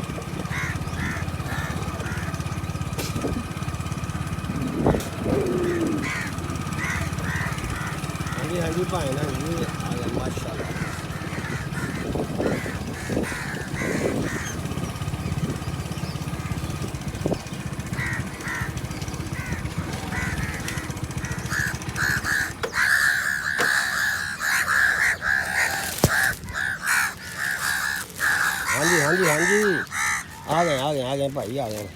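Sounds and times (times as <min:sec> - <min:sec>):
crows cawing: 0:00.0 - 0:31.9
engine running: 0:00.0 - 0:31.9.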